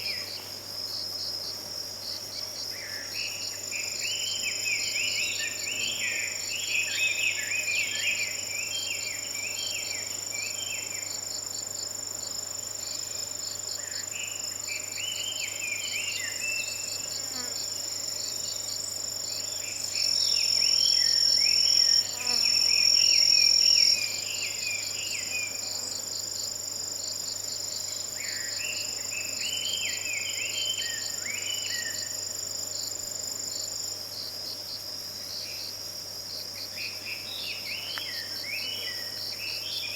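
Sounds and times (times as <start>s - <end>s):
chorus of insects: 0.0s - 39.9s.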